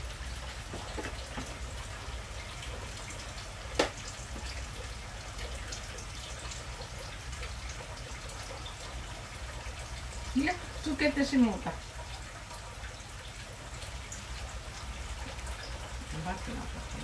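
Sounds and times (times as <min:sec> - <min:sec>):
water dripping in sink: 0:00.0 - 0:17.0.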